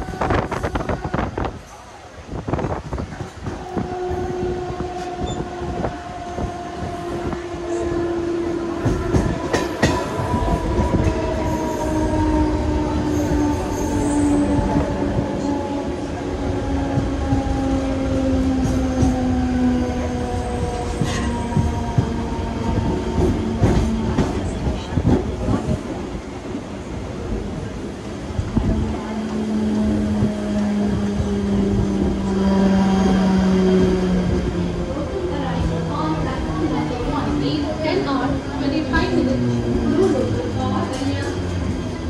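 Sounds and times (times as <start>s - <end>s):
train rumbling on track: 0.0s - 42.0s.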